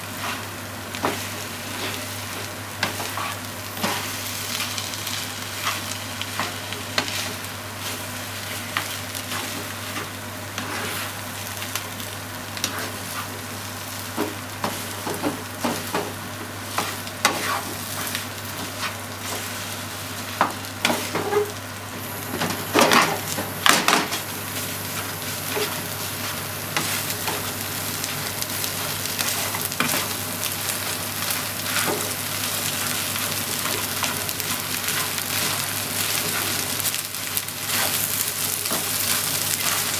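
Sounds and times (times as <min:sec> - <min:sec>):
rice sizzling in a frying pan: 0:00.0 - 0:39.9.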